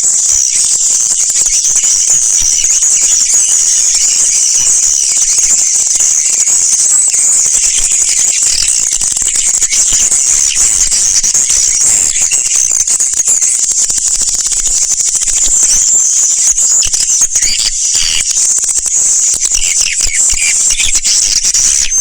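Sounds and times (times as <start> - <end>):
swiftlets chirping and twittering: 0.0 - 22.0.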